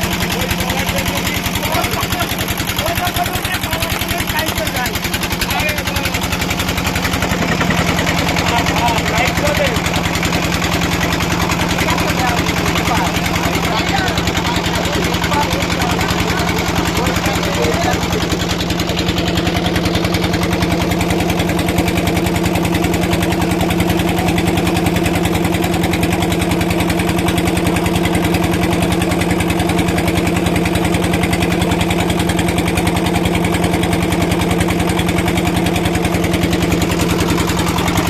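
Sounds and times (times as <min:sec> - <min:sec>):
small engine running steadily: 0:00.0 - 0:38.0.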